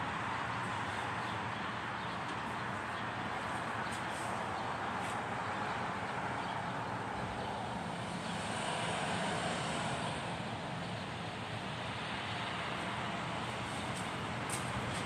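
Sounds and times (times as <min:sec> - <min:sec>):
distant city noise hum: 0:00.0 - 0:15.0.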